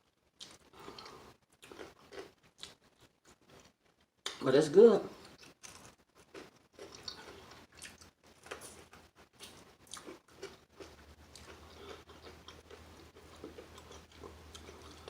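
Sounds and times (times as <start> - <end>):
person chewing crispy food: 0.3 - 4.4, 5.2 - 15.0.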